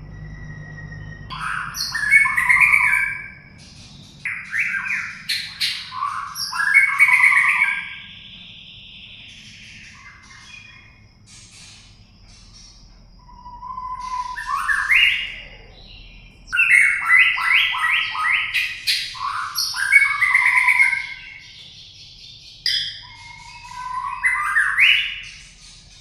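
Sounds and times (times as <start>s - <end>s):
bird singing sliding whistles: 0.0s - 22.0s, 22.6s - 26.0s.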